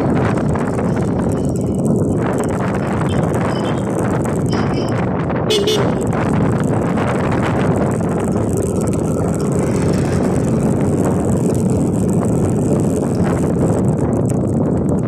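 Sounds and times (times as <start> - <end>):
motorcycle engine running: 0.0 - 15.0
road and wind rush: 0.0 - 15.0.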